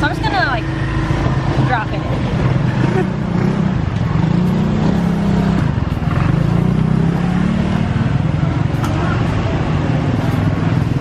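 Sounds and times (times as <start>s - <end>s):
street traffic: 0.0s - 11.0s
vehicle engine humming: 0.0s - 11.0s.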